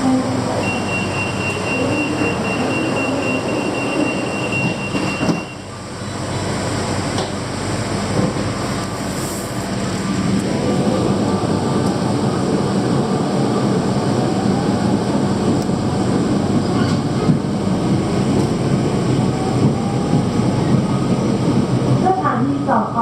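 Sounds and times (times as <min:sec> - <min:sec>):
monorail train running rumble: 0:00.0 - 0:23.0.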